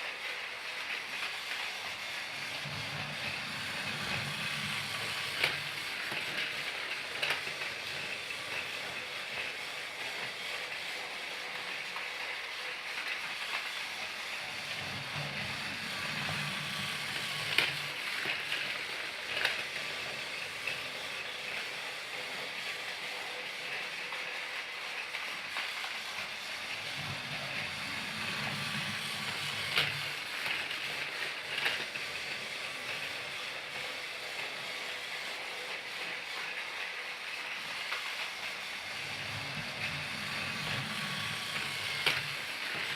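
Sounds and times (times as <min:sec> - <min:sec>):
toy train whirring: 0:00.0 - 0:42.9.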